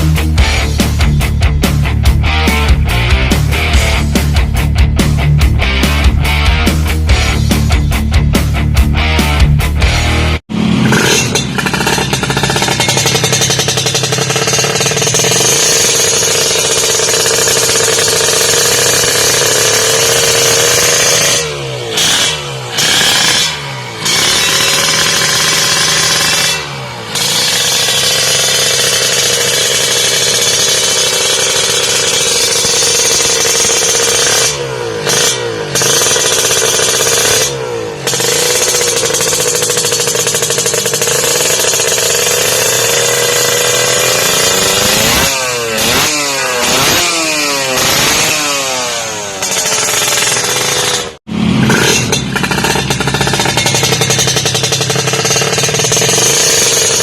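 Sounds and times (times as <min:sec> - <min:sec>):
two-stroke engine idling: 0:00.0 - 0:08.5, 0:09.8 - 0:57.0
engine revving: 0:00.0 - 0:57.0.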